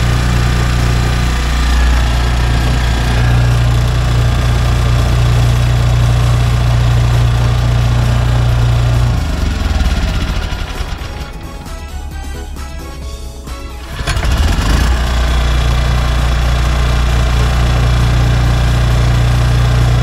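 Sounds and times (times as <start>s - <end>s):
generator engine running: 0.0s - 20.0s.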